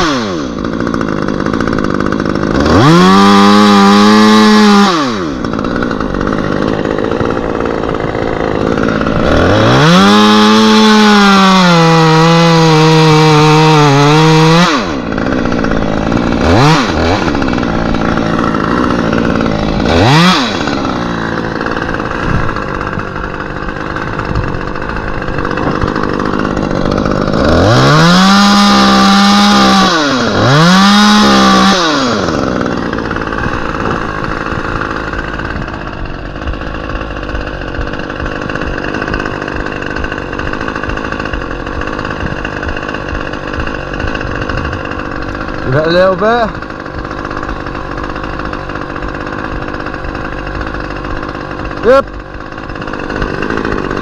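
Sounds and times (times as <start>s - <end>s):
petrol chainsaw cutting wood: 0.0s - 54.0s.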